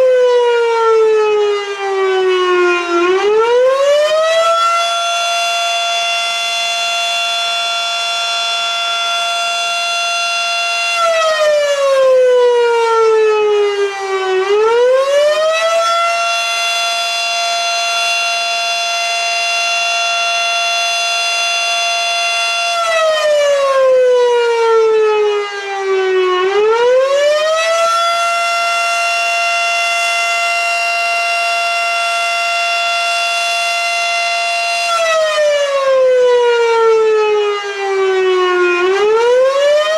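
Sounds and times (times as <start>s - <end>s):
mechanical fire siren wailing: 0.0s - 39.9s.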